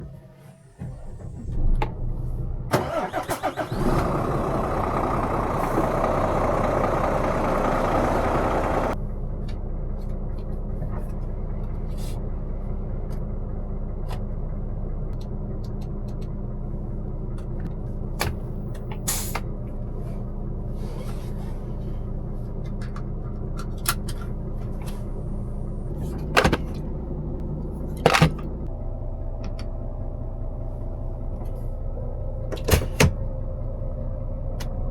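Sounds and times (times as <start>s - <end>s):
diesel truck engine running: 0.0s - 34.9s
diesel engine cranking: 0.8s - 10.4s, 13.8s - 34.9s.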